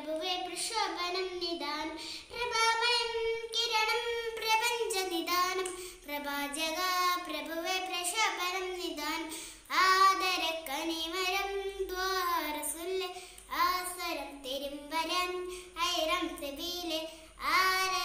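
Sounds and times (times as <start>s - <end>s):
girl singing unaccompanied: 0.0s - 18.0s.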